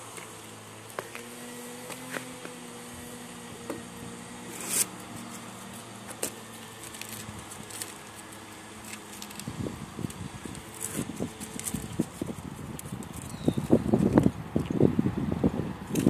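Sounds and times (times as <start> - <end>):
masking tape peeling: 0.0 - 14.8
steady low hum: 0.0 - 16.0.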